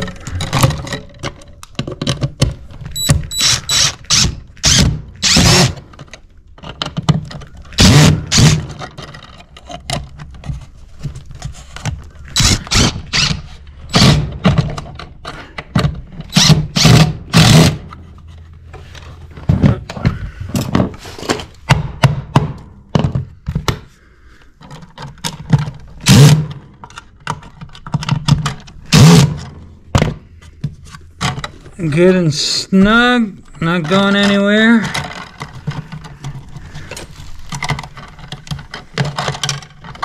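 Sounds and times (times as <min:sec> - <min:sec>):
tools knocking and clattering: 0:00.0 - 0:03.6, 0:04.6 - 0:23.9, 0:24.6 - 0:31.8, 0:32.8 - 0:40.0.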